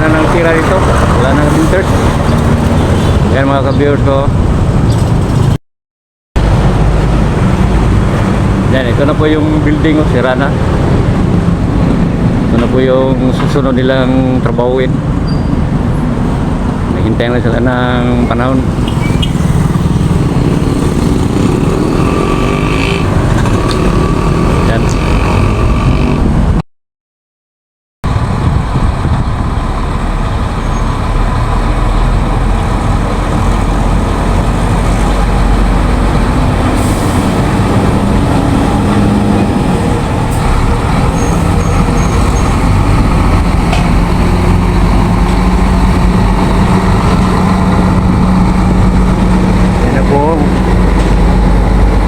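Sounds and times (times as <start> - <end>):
heavy truck engine rumbling: 0.0 - 5.6, 6.4 - 26.6, 28.0 - 52.0.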